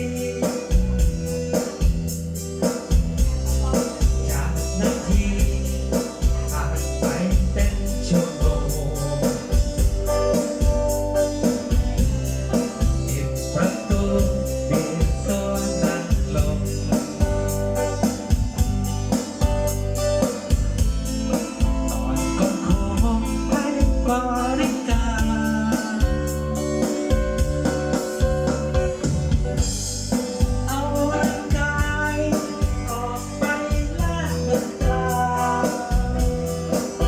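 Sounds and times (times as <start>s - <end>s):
heavy pulsing bass beat: 0.0s - 37.0s
keyboard: 0.0s - 37.0s
person singing: 0.0s - 37.0s.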